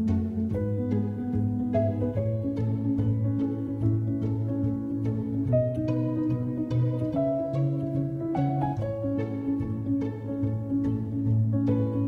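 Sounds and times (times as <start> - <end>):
background instrumental music: 0.0 - 12.0.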